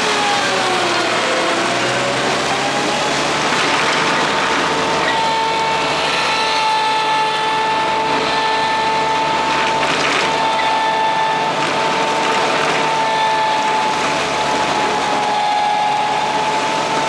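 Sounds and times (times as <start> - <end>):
diesel vacuum machine running: 0.0 - 17.0.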